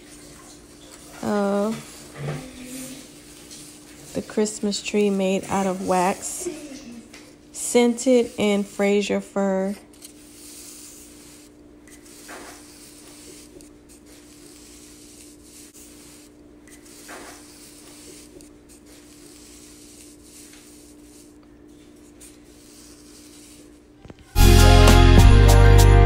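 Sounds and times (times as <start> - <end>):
faint rubbing sounds: 0.0 - 7.0, 7.6 - 24.0.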